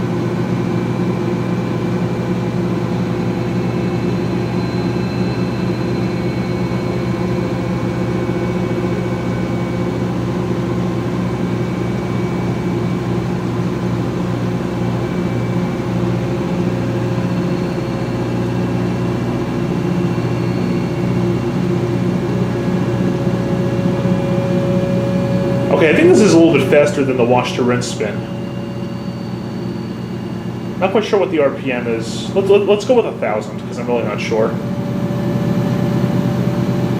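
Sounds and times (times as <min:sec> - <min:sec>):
washing machine spinning: 0:00.0 - 0:36.9.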